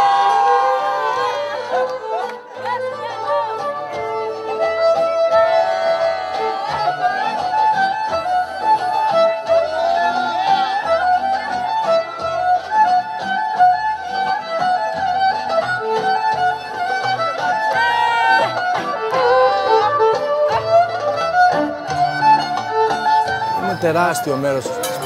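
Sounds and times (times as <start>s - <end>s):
violin playing dance tune: 0.0s - 25.0s.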